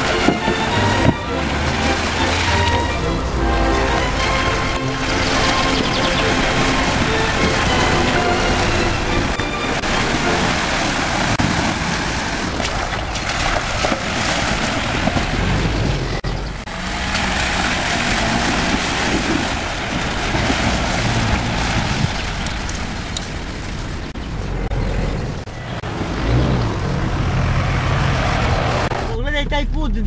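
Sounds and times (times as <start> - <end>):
water rushing and splashing: 0.0 - 29.0.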